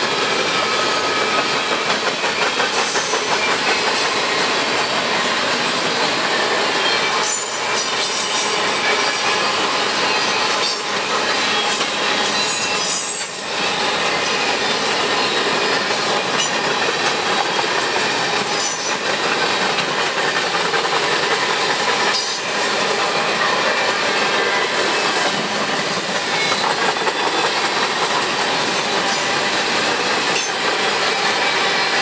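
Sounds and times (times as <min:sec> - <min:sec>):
freight train wheels on rail: 0:00.0 - 0:32.0.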